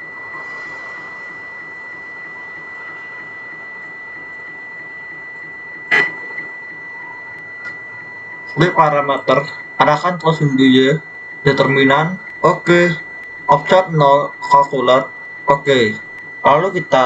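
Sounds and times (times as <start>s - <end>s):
milling spindle whir: 0.0s - 17.0s.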